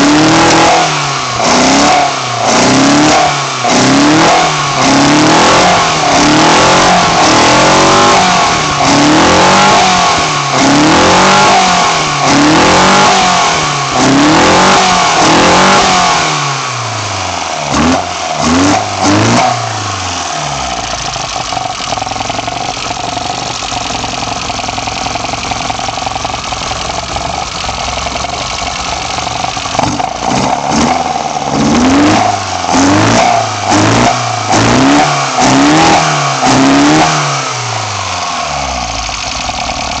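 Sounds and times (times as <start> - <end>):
car engine revving and idling: 0.0 - 40.0.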